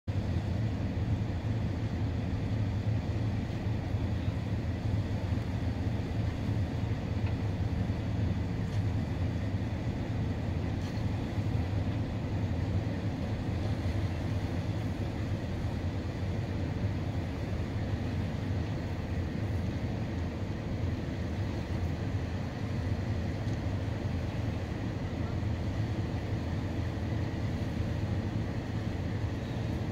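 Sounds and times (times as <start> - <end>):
diesel engines droning: 0.1 - 29.9
faint steady whine: 0.1 - 29.9.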